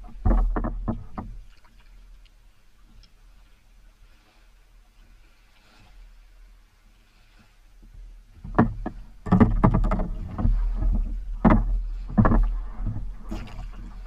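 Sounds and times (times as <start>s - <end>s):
water splashing against kayak hull: 0.0s - 14.0s.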